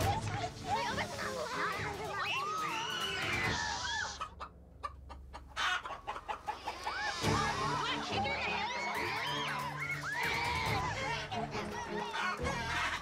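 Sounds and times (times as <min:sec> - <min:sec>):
hens clucking and squawking: 0:00.7 - 0:13.0.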